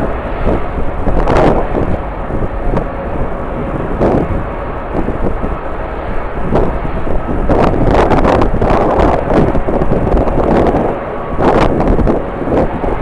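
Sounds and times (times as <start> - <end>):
jet engines running: 0.0 - 13.0
wind buffeting microphone: 0.0 - 13.0.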